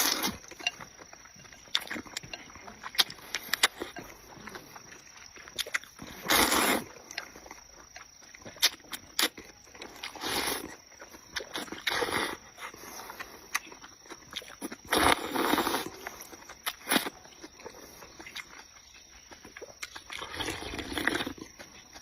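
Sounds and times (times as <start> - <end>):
chewing and mouth noises: 0.0 - 22.0.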